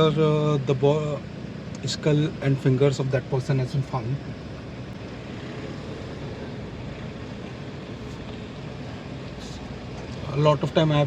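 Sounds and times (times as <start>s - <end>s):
vehicle driving on road: 0.0s - 11.0s.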